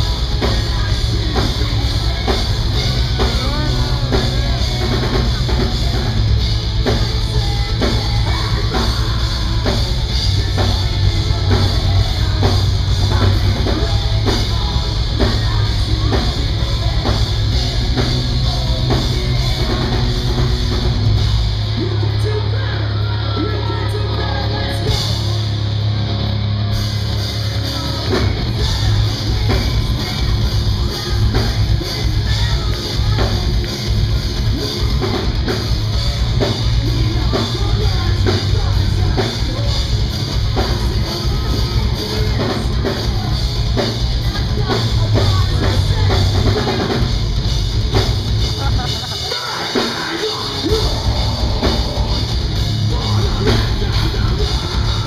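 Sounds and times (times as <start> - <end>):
vocals: 0.0 - 26.2, 26.9 - 55.0
drum kit: 0.0 - 55.0
electric guitars: 0.0 - 55.0.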